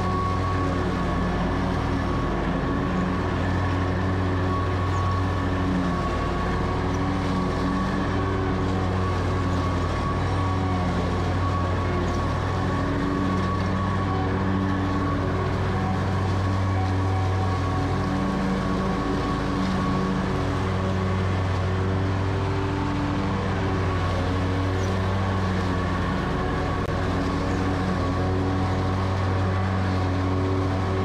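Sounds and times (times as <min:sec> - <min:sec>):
mower blades cutting grass: 0:00.0 - 0:31.0
mower engine at full throttle: 0:00.0 - 0:31.0.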